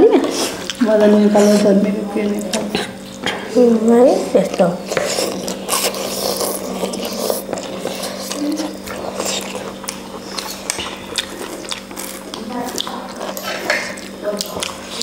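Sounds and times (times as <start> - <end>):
people eating noodle soup: 0.0 - 15.0
steady low hum: 0.0 - 15.0.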